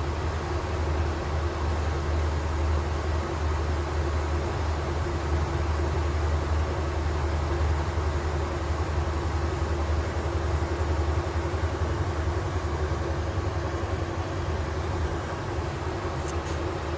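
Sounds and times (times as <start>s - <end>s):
constant hum: 0.0s - 16.9s
train low rumble: 0.0s - 16.9s.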